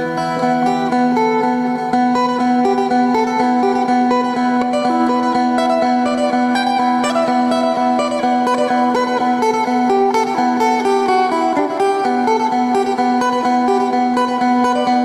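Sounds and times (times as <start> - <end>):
plucked lute melody: 0.0 - 15.0.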